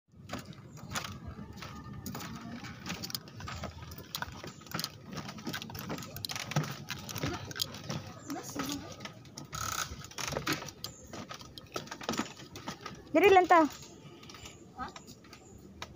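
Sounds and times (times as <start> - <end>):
footsteps on bamboo slats: 0.1 - 15.9.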